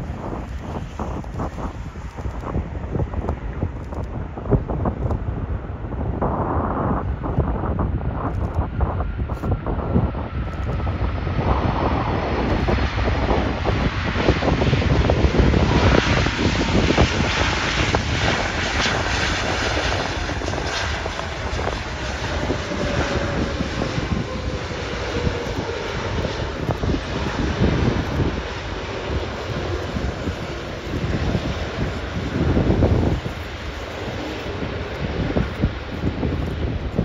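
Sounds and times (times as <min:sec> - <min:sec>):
jet engines rushing and whining: 0:00.0 - 0:37.0.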